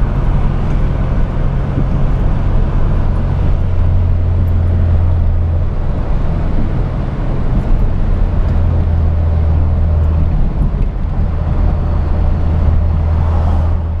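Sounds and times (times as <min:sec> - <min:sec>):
car engine low hum: 0:00.0 - 0:14.0
tyre and road noise: 0:00.0 - 0:14.0.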